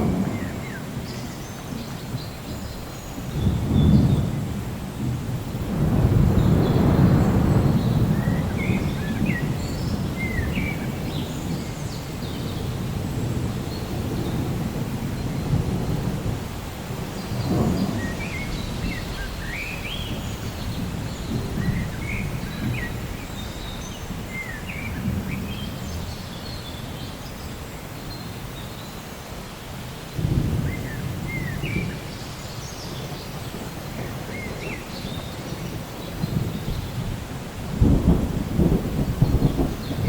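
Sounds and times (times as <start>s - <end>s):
thunder rumbling: 0.0s - 27.6s, 30.1s - 40.0s
steady rain: 0.0s - 40.0s.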